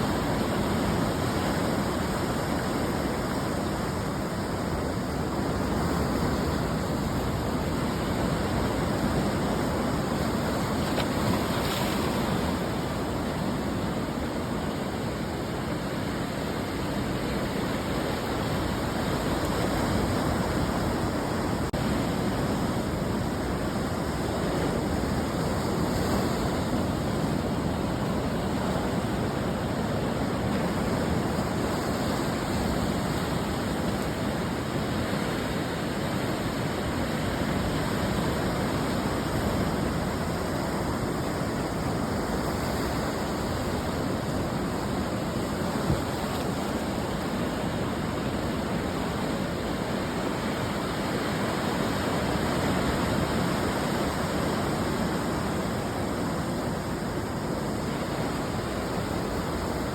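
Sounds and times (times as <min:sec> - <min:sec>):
ocean surf washing ashore: 0:00.0 - 0:59.9.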